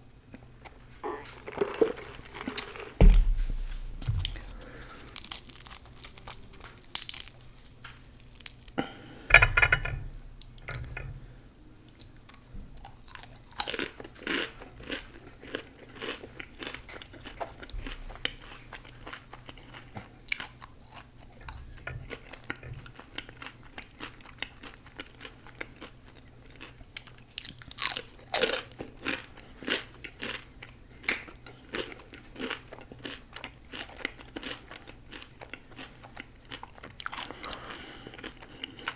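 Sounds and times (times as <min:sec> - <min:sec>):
crunching and chewing food: 0:00.3 - 0:03.0, 0:04.0 - 0:38.9.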